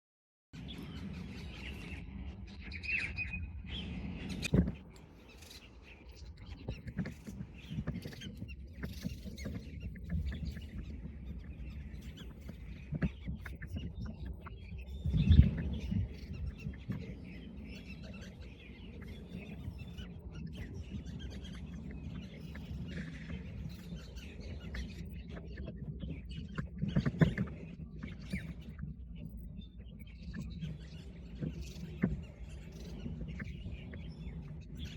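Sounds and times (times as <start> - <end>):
small birds chirping: 0.6 - 34.9.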